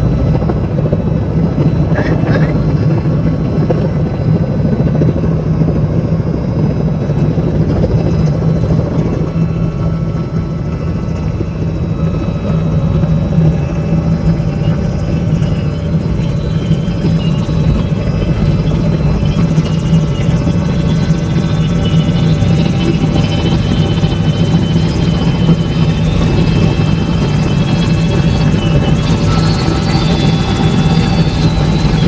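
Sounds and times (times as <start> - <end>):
helicopter rotor and engine drone: 0.0 - 32.0.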